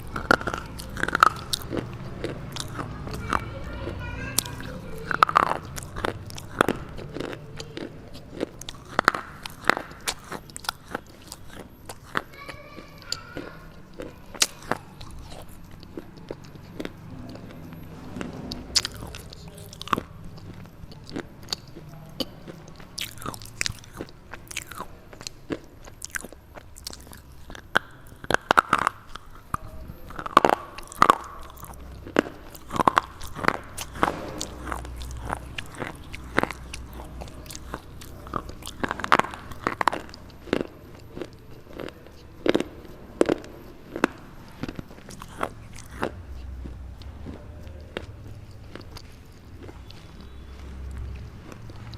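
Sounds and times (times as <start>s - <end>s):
chewing: 0.0s - 51.9s.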